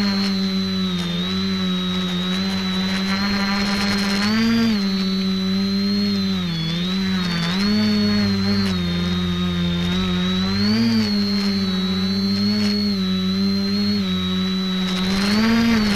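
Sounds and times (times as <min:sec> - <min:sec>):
drone motors and propellers whining: 0:00.0 - 0:15.9.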